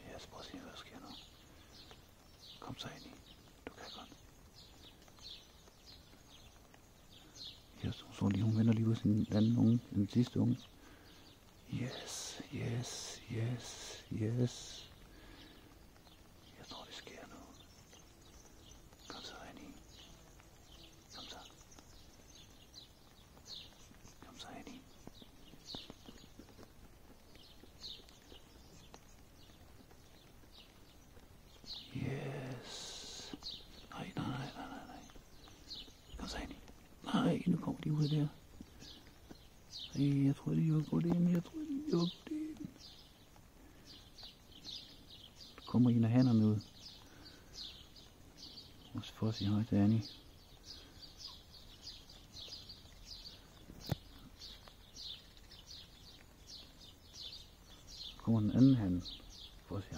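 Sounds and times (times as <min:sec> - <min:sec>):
faint clicks: 0:01.1 - 0:45.7, 0:50.1 - 0:59.7.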